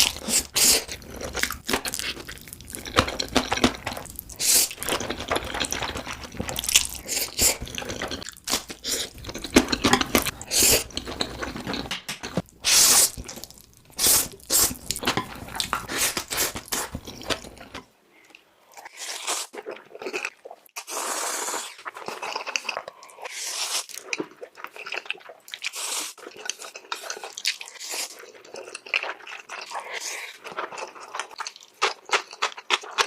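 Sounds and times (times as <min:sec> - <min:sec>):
person chewing crunchy food: 0:00.0 - 0:17.9, 0:18.7 - 0:33.0.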